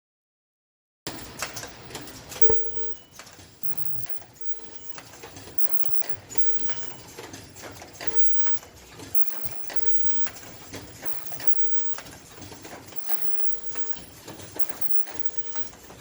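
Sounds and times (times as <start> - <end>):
machine mechanism clacking: 1.1 - 16.0.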